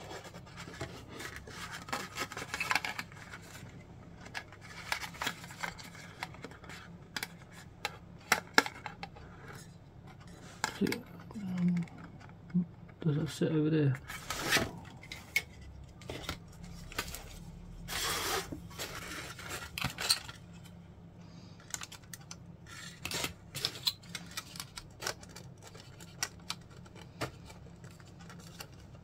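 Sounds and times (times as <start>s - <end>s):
plastic parts scraping: 0.0s - 12.6s, 13.9s - 20.8s, 21.6s - 29.0s.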